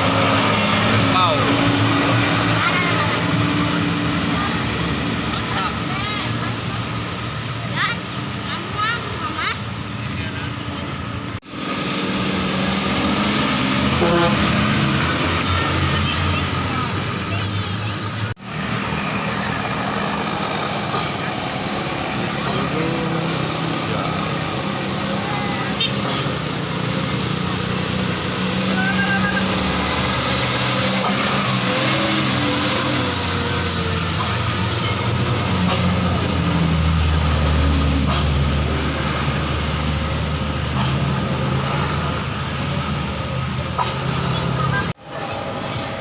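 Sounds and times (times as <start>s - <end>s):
truck diesel engine running: 0.0s - 46.0s
tyre and road noise: 0.0s - 46.0s.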